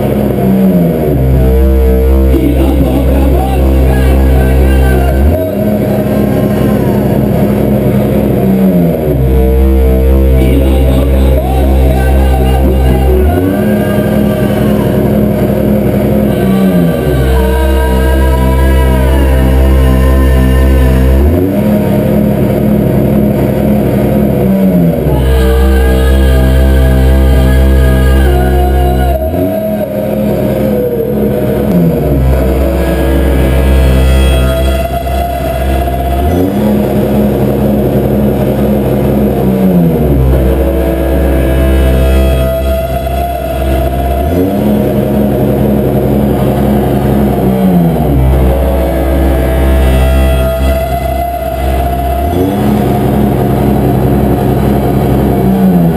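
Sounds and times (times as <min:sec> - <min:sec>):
industrial electronic music: 0:00.0 - 0:55.9.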